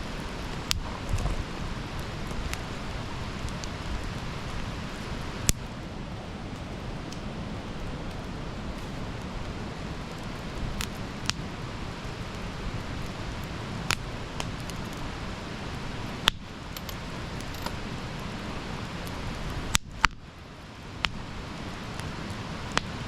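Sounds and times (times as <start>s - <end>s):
campfire crackles and pops: 0.0s - 23.0s
low rush of campfire: 0.0s - 23.0s.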